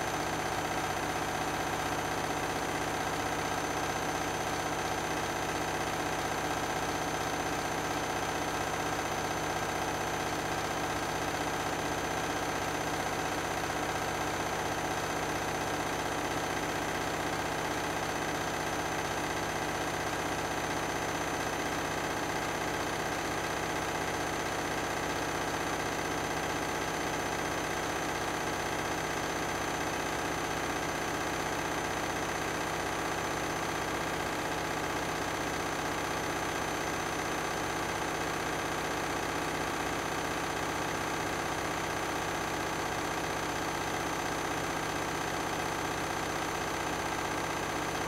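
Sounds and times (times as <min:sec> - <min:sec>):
washing machine spinning: 0:00.0 - 0:48.0.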